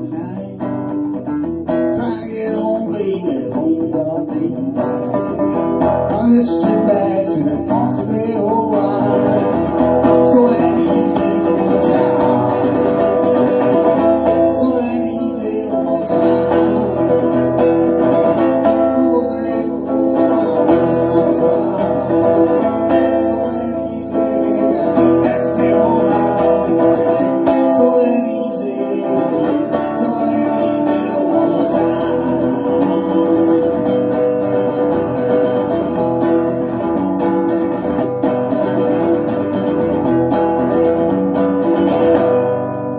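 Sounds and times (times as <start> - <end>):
electric guitar playing slow song: 0.0 - 42.9.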